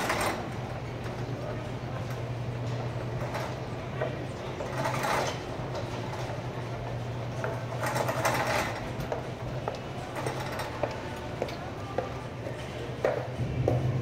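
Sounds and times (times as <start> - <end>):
shopping cart rolling: 0.0 - 14.0
steady low hum: 0.0 - 14.0.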